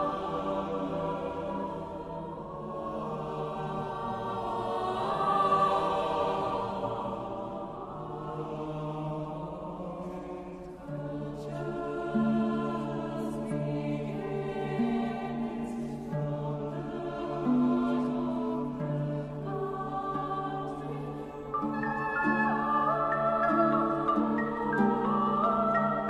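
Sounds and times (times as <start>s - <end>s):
choir singing sustained chords: 0.0s - 26.0s.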